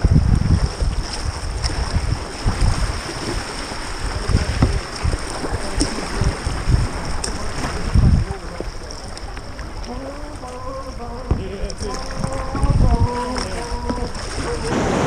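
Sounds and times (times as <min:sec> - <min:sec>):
paddle strokes splashing: 0:00.0 - 0:15.0
rushing choppy water: 0:00.0 - 0:15.0
wind buffeting microphone: 0:00.0 - 0:15.0.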